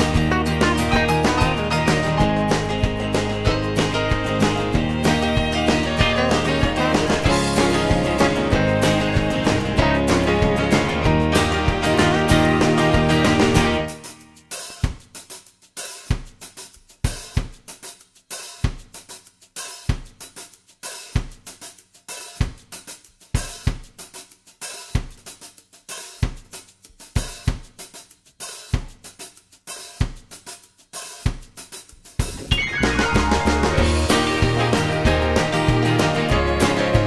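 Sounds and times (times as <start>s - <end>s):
drum kit playing: 0.0s - 37.0s.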